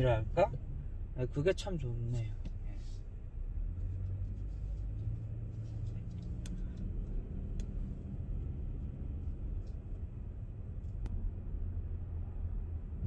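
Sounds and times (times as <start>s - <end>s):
road and engine noise in car: 0.0s - 13.0s.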